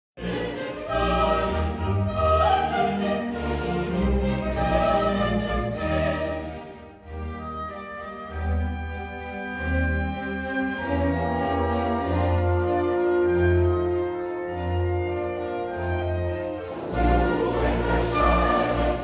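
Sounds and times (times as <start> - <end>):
classical orchestral music with voices: 0.2 - 19.0.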